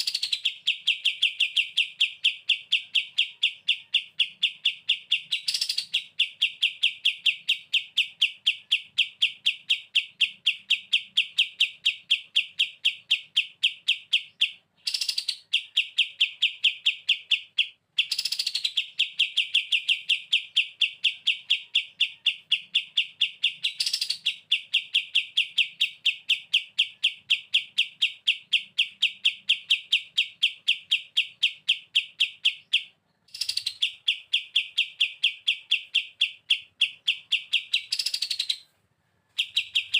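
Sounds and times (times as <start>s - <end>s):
bulbul singing rattling trill: 0.0s - 38.7s.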